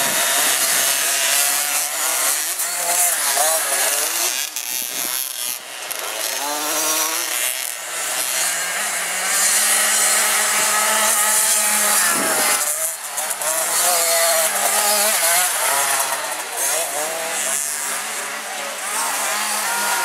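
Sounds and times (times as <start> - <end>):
motocross bikes buzzing: 0.0 - 20.0.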